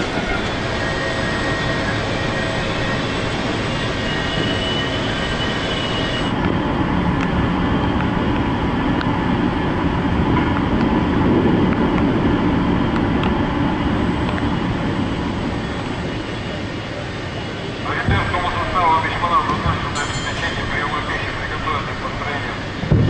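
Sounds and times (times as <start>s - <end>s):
loud mechanical rumble: 0.0s - 23.0s.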